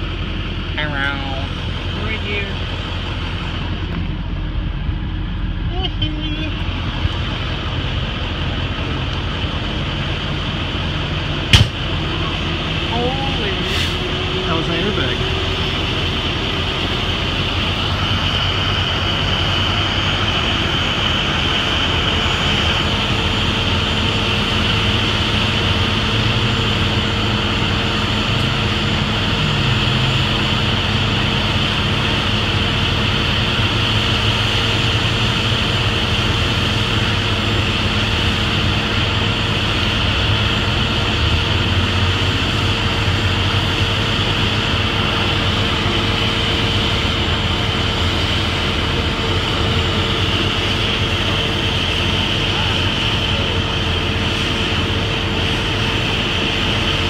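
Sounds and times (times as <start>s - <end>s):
large engine running steadily: 0.0s - 57.0s.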